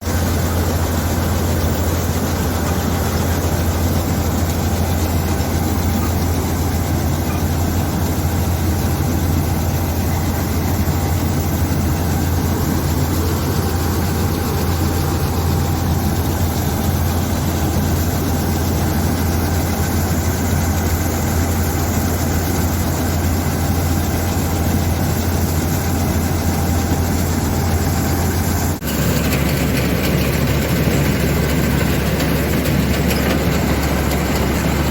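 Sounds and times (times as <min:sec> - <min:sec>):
diesel engine humming: 0:00.0 - 0:34.9.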